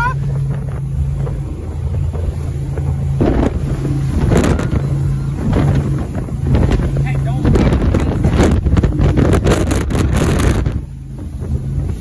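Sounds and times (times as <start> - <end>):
powerboat engine running: 0.0 - 12.0
wind rushing over microphone: 0.0 - 12.0.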